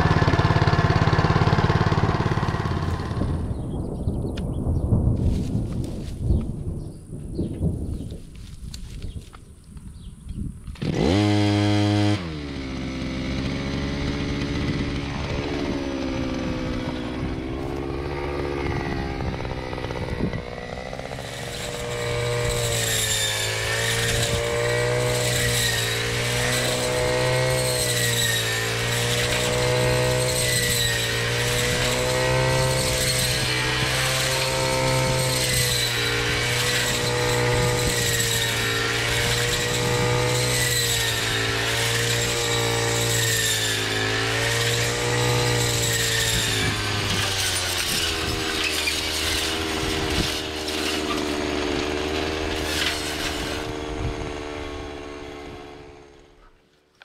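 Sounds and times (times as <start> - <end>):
brush cutter engine running: 0.0 - 4.2, 8.0 - 57.0
blade cutting grain: 10.7 - 57.0.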